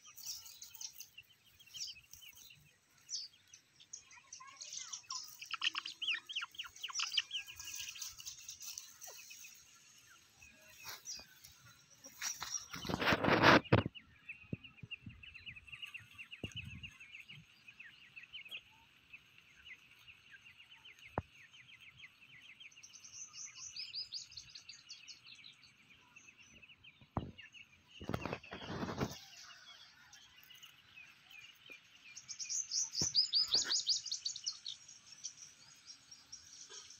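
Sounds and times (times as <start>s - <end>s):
chicks chirping: 0.0s - 36.9s.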